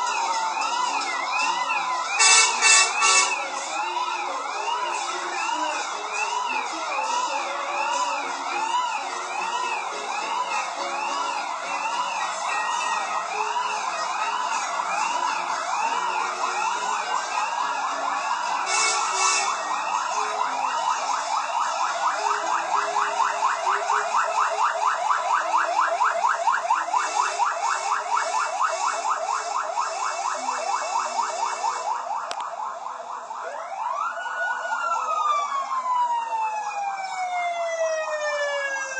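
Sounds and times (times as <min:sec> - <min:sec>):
emergency vehicle sirens: 0:00.0 - 0:38.9.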